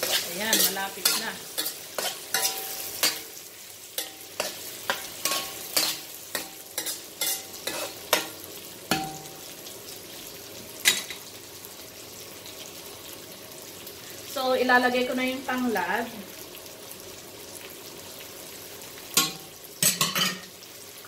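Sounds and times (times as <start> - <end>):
chicken wings sizzling in a pan: 0.0 - 21.0.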